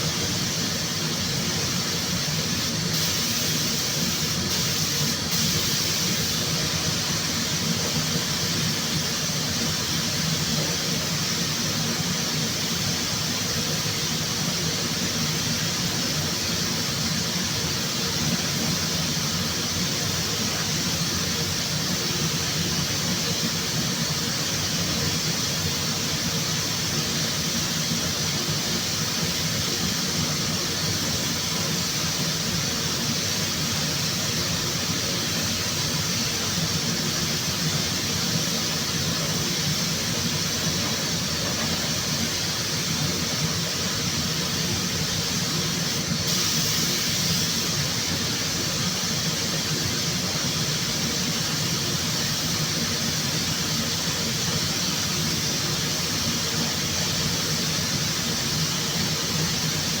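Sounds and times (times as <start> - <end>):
workshop machinery hiss and hum: 0.0 - 60.0.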